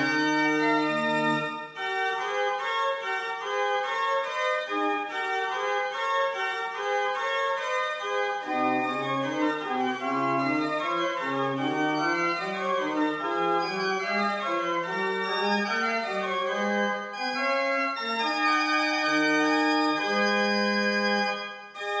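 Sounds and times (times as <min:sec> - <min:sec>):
pipe organ playing: 0:00.0 - 0:22.0.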